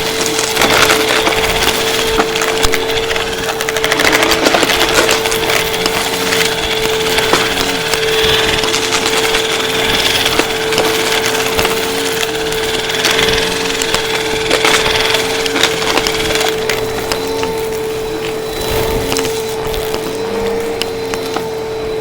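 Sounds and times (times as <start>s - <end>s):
debris crackling in vacuum: 0.0s - 22.0s
vacuum cleaner running: 0.0s - 22.0s.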